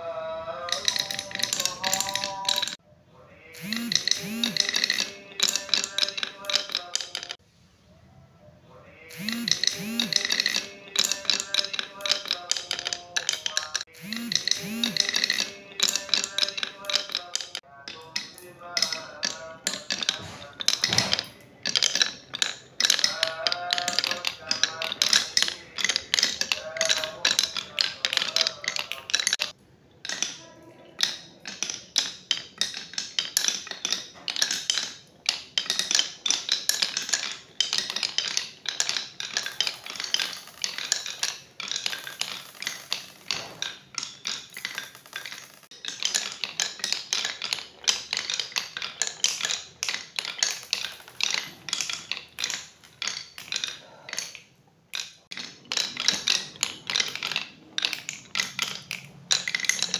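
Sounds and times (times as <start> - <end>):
marbles clattering down wooden run: 0.6 - 2.8, 3.5 - 7.4, 9.1 - 59.9.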